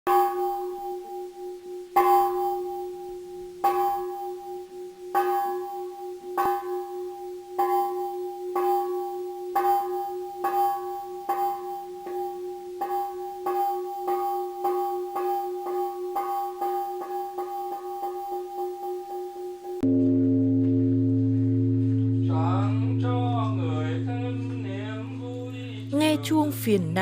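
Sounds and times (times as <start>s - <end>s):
temple bell ringing: 0.1s - 27.0s.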